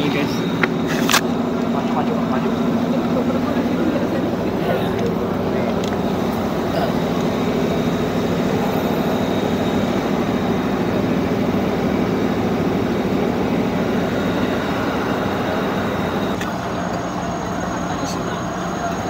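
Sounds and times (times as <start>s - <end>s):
high electric whine: 0.0s - 19.0s.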